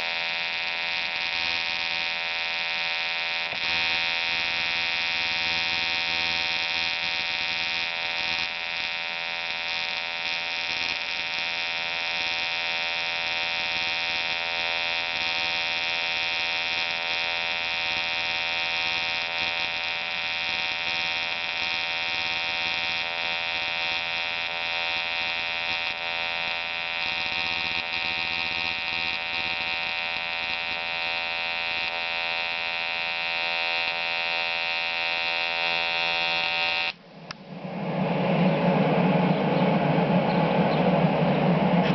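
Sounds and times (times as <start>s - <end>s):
welding arc buzzing: 0.0s - 37.0s.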